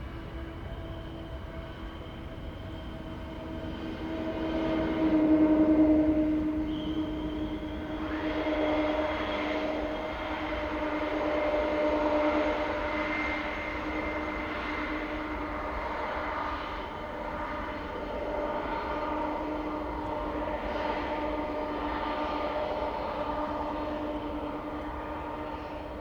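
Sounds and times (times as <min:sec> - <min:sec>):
jet engines rushing and whining: 0:00.0 - 0:26.0.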